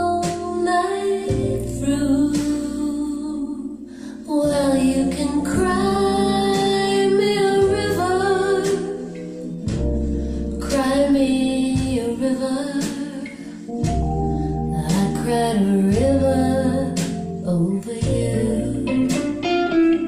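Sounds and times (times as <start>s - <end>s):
deep bass notes: 0.0s - 20.0s
song through loudspeakers: 0.0s - 20.0s.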